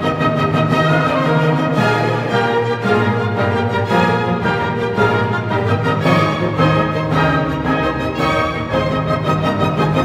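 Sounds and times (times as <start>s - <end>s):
orchestral string music: 0.0s - 10.0s.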